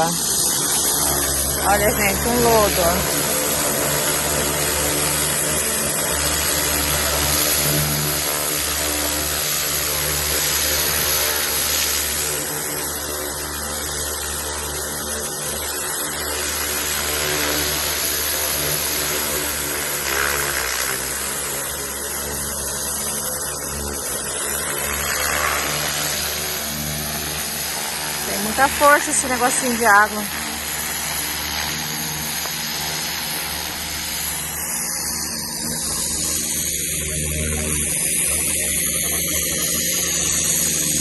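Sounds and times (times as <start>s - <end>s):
pressure washer motor hum: 0.0s - 41.0s.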